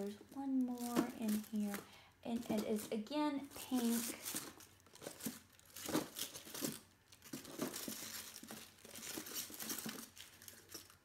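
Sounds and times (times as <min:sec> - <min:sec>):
packaging crinkling: 0:00.3 - 0:11.0.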